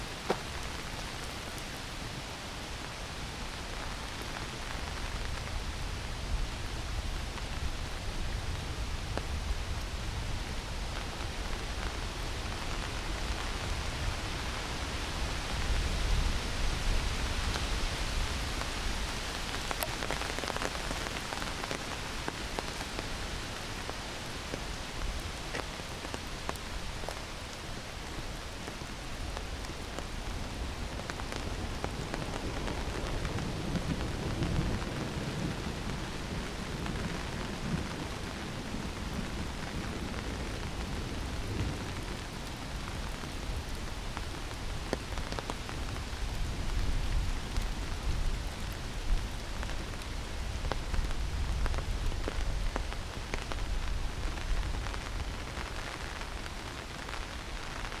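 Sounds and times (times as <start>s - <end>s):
heavy rain through trees: 0.0s - 58.0s.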